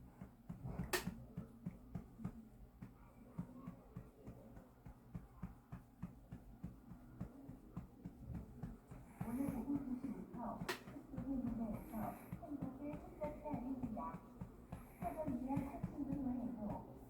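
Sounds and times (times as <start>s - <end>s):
hand patting baby's back: 0.1s - 17.0s.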